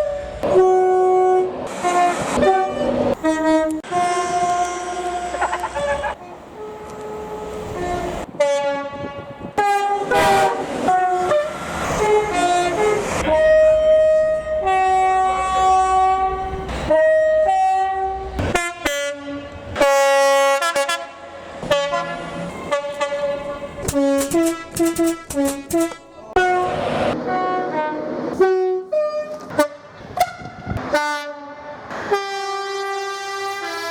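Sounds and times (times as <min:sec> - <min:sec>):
train horn playing a tune: 0:00.0 - 0:33.9.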